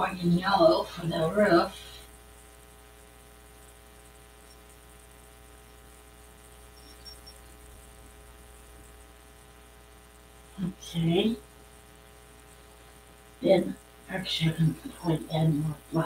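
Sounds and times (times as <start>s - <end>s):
faint electrical mains hum: 0.0s - 16.0s.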